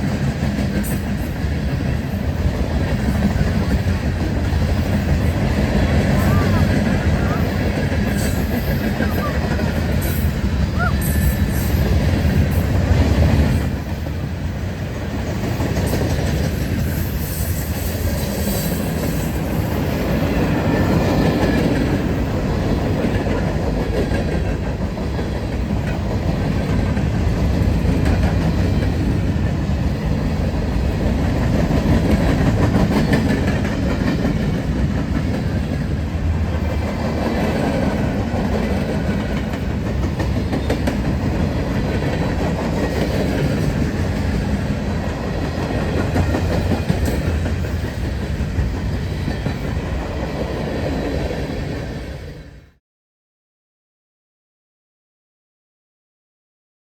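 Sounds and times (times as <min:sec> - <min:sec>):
train cars rumbling past: 0:00.0 - 0:52.7.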